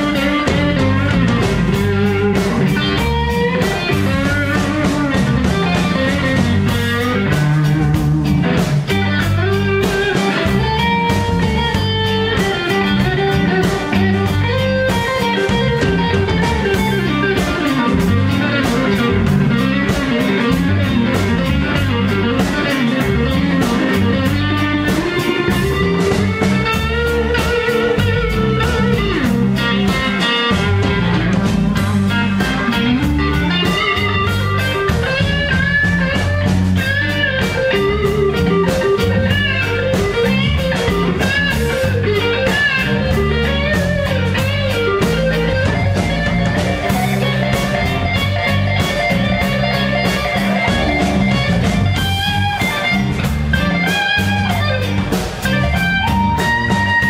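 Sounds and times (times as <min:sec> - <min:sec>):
bass guitar: 0:00.0 - 0:57.0
drum kit steady beat: 0:00.0 - 0:57.0
electric guitar lead: 0:00.0 - 0:57.0.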